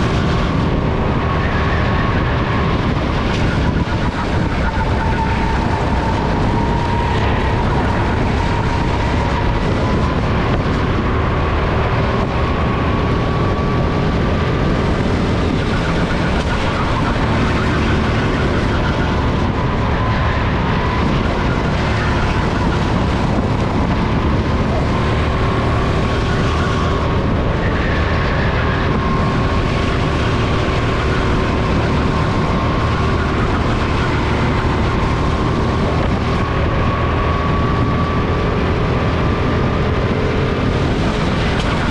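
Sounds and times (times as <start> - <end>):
go-kart engine running: 0.0 - 41.9
wind and track noise: 0.0 - 41.9.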